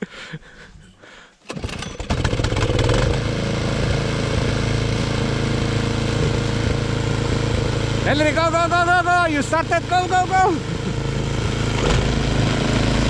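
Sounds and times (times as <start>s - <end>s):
snowblower engine starting and running: 1.4s - 13.0s.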